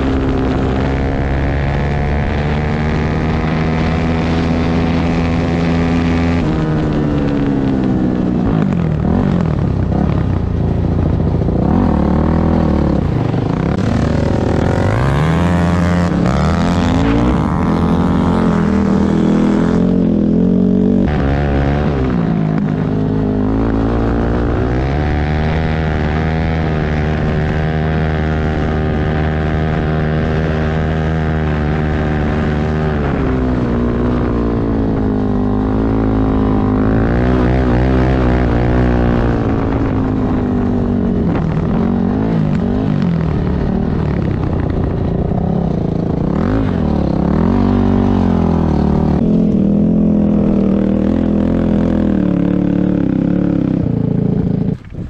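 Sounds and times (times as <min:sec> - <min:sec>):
off-road engine running: 0:00.0 - 0:55.0.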